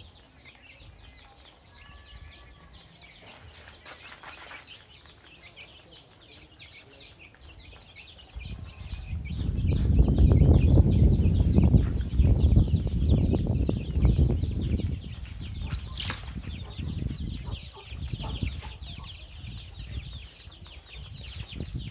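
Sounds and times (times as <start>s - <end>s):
baby chicks peeping: 0.0s - 21.9s.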